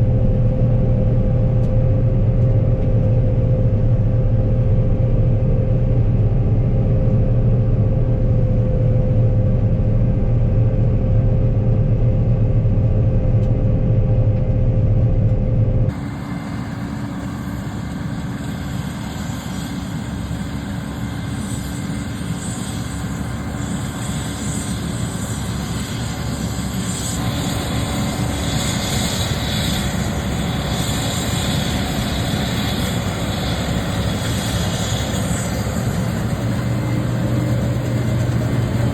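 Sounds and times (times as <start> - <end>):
farm machinery engine humming: 0.0 - 38.9.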